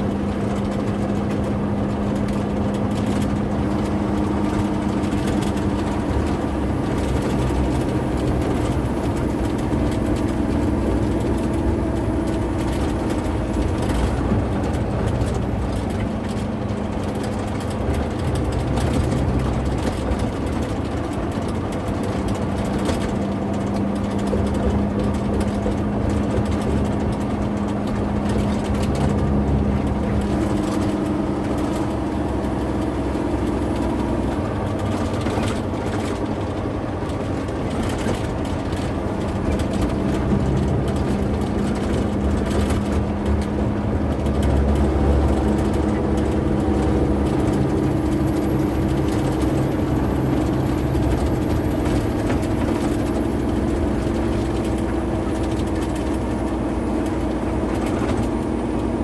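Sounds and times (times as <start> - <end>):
vehicle cab engine and road drone: 0.0 - 59.0.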